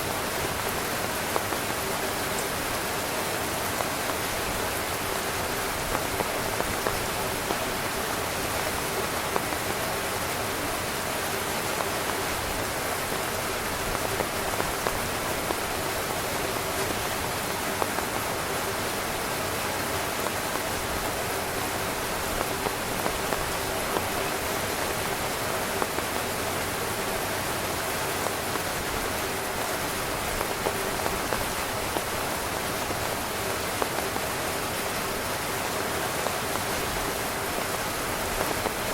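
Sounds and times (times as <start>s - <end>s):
heavy rain on tent fabric: 0.0s - 38.9s.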